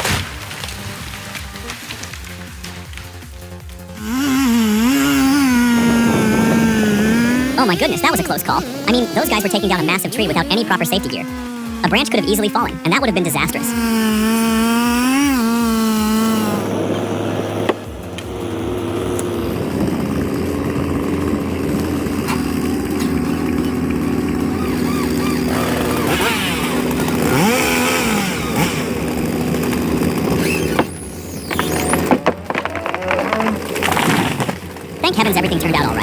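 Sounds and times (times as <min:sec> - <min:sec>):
chainsaw running and revving: 0:00.0 - 0:36.0.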